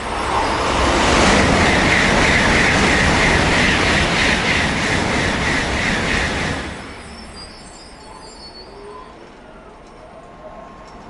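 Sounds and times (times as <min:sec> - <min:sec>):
bullet train trailing rush: 0:00.0 - 0:11.0.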